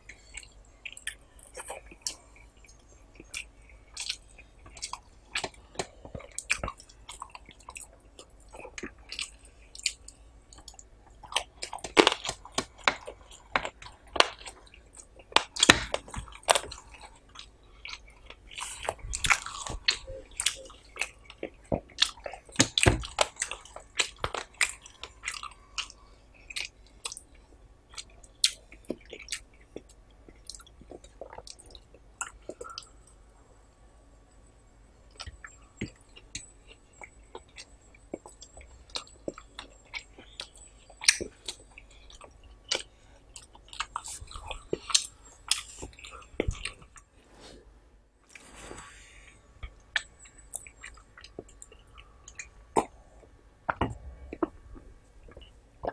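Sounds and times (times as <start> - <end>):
person chewing food: 0.0 - 33.3, 35.1 - 47.6, 48.3 - 55.9.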